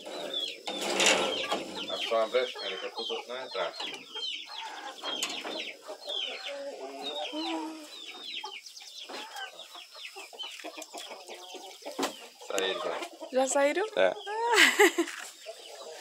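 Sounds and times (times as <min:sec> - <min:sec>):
chickens clucking: 0:00.0 - 0:16.0
high peeping calls: 0:00.0 - 0:16.0.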